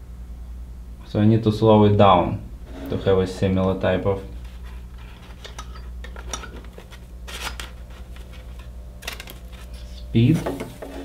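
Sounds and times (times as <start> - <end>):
fan hum: 0.0 - 11.0.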